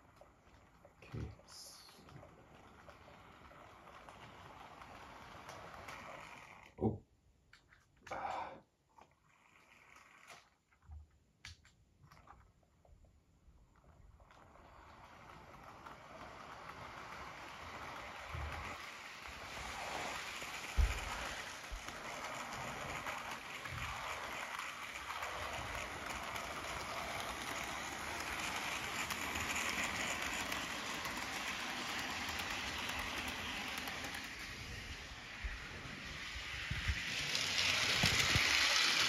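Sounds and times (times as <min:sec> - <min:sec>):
model train whirring on track: 0:00.0 - 0:06.8, 0:09.3 - 0:10.5, 0:13.8 - 0:39.0.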